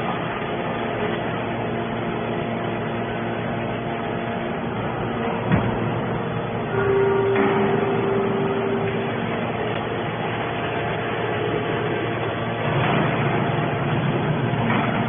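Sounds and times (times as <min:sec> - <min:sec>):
scrap baler machine hum: 0:00.0 - 0:15.0.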